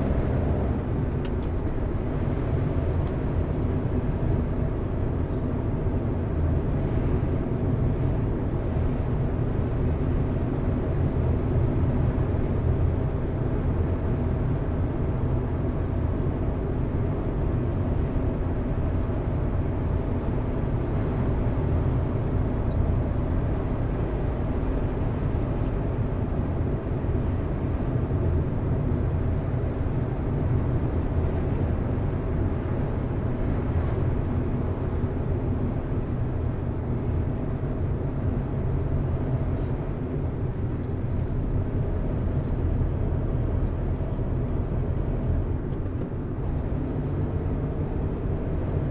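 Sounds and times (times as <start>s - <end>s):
car engine and tyre hum: 0.0s - 48.9s.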